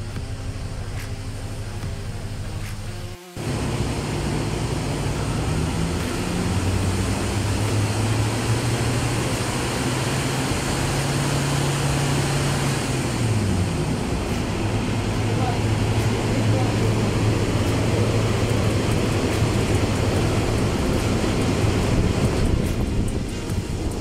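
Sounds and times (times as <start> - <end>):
diesel engine low hum: 0.0 - 24.0
loud rushing noise: 2.7 - 24.0.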